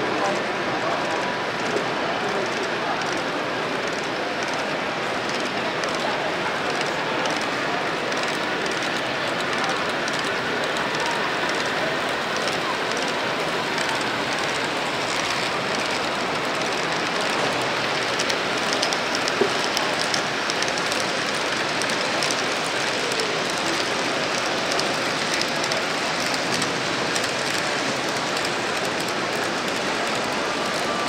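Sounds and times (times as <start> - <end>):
crowded hall background noise: 0.0 - 31.0
model train wheels rolling on rail: 0.0 - 31.0.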